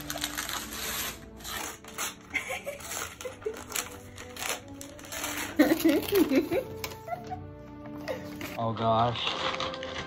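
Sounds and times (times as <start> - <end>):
wrapping paper tearing: 0.0 - 7.2, 8.1 - 10.0.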